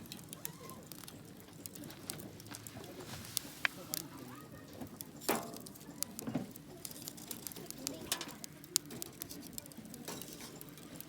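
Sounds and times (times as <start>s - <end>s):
campfire wood crackling: 0.0s - 11.0s.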